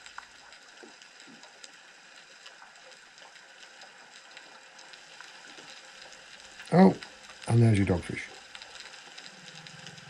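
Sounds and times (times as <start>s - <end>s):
underwater crackling clicks: 0.0s - 7.5s, 8.3s - 10.0s
steady underwater hiss: 0.0s - 10.0s.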